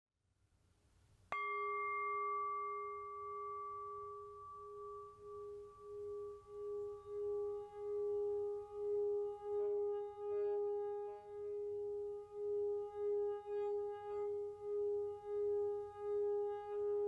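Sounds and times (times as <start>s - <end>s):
singing bowl ringing: 1.3s - 17.0s.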